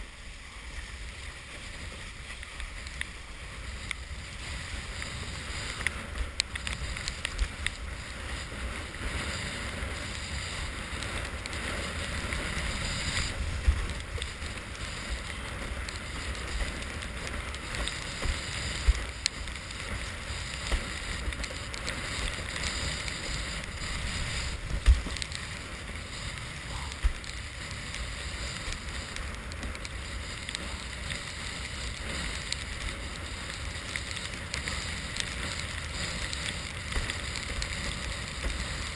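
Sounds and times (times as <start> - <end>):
water hissing and splashing: 0.0 - 38.9
wind rushing over camera: 0.0 - 38.9.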